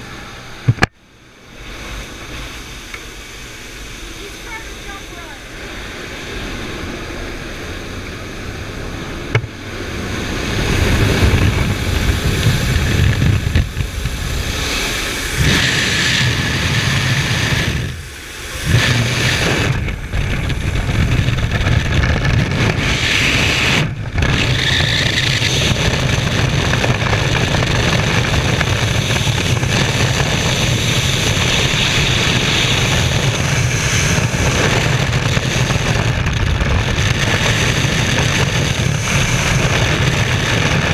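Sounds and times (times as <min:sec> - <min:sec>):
wind rushing over microphone: 0:00.0 - 0:40.9
aircraft cabin noise: 0:01.6 - 0:40.9.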